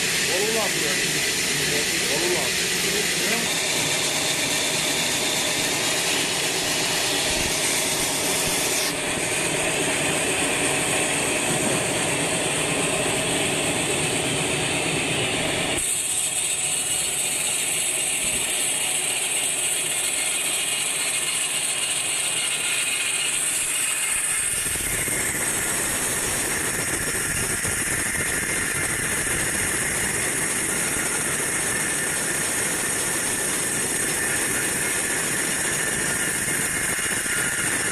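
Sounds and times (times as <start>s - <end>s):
band saw cutting a log: 0.0s - 37.9s.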